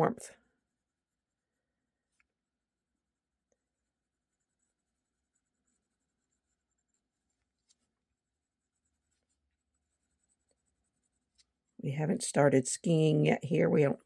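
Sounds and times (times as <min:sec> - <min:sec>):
pencil scratching on paper: 0:00.0 - 0:13.8.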